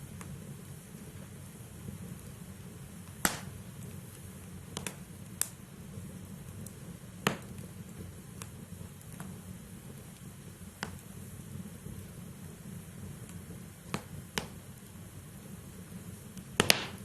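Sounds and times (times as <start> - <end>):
fire rumbling in fireplace: 0.0 - 17.0
wood crackling and popping: 0.0 - 17.0.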